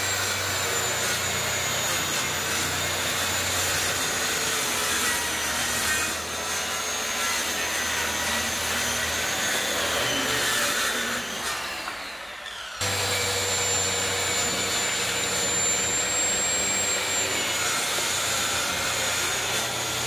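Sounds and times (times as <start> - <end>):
circular saw cutting wood: 0.0 - 20.0.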